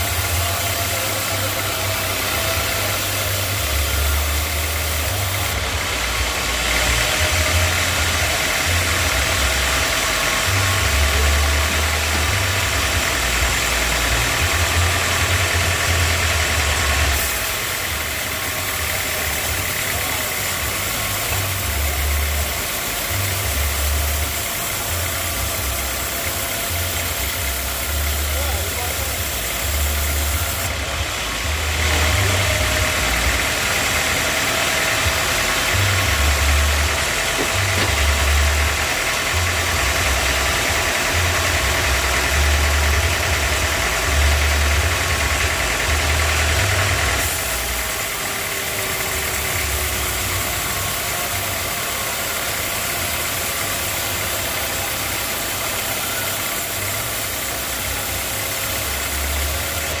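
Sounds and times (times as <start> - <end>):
sawmill machinery running: 0.0 - 60.0.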